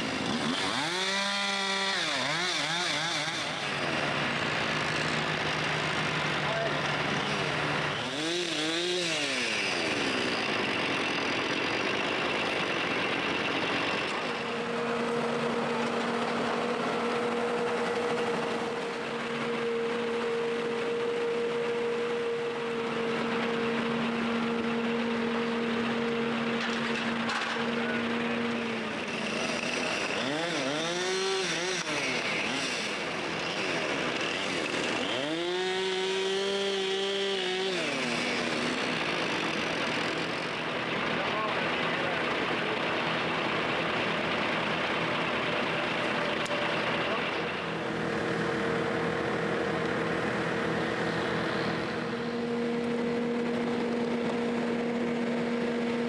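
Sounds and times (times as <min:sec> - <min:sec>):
chainsaws revving: 0:00.0 - 0:56.0
engine holding steady high note: 0:03.4 - 0:56.0.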